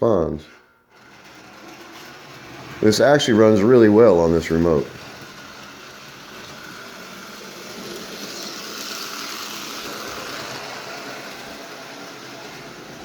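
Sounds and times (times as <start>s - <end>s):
toy train car whirring on track: 0.9s - 13.0s.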